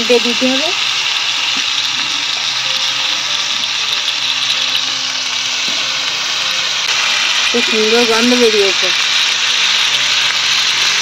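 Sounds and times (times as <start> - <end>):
kebabs sizzling on a griddle: 0.0 - 11.0.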